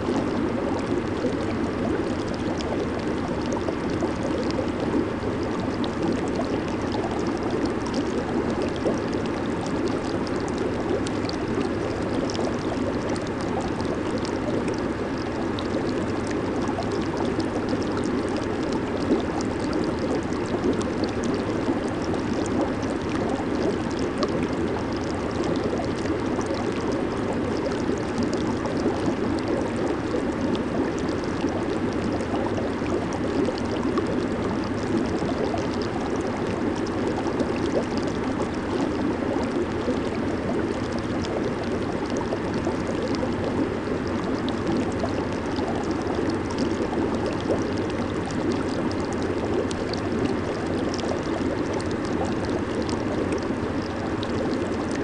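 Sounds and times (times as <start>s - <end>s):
hot tub jets bubbling water: 0.0s - 55.0s.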